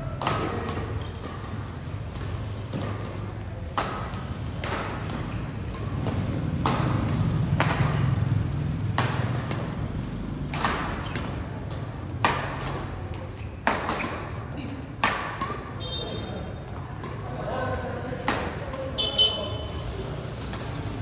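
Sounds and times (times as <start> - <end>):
rackets hitting shuttlecock: 0.0 - 21.0.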